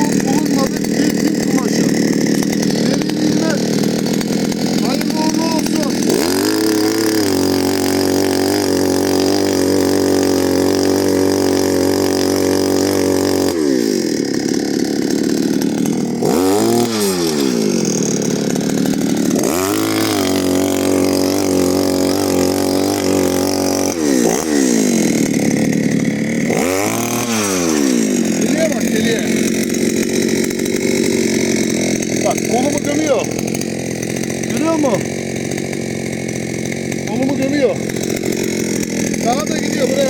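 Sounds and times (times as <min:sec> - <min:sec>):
earth auger petrol engine revving: 0:00.0 - 0:40.0.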